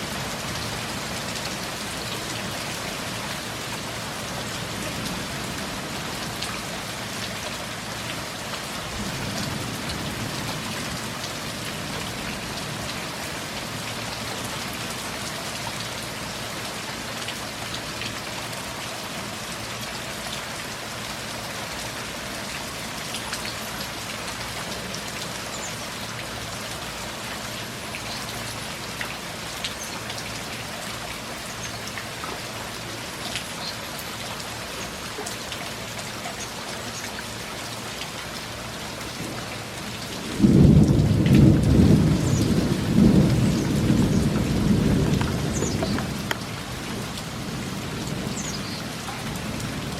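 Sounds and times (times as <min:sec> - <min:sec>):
raindrops ticking close by: 0:00.0 - 0:49.9
steady rain falling: 0:00.0 - 0:49.9.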